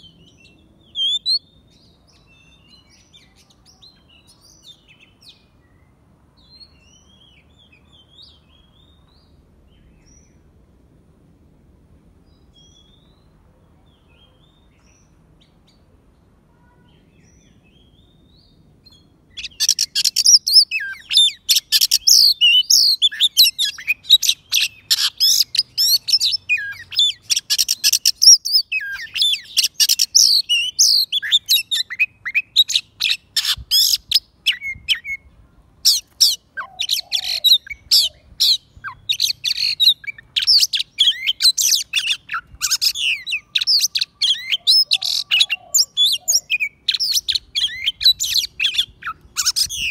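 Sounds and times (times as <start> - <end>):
faint distant bird chirps: 0.0 - 10.6, 12.2 - 49.9.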